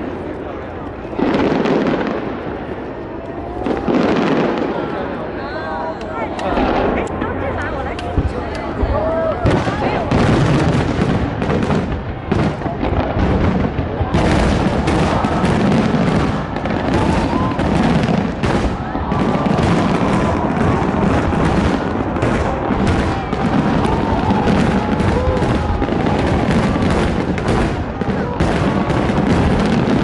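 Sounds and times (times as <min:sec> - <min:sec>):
fireworks booming: 0:00.0 - 0:05.4, 0:06.2 - 0:30.0
fireworks crackling: 0:00.0 - 0:30.0.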